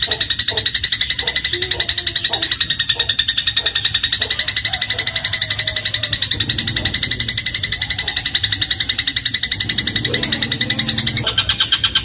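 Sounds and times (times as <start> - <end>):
sparrow chattering trill: 0.0 - 12.0.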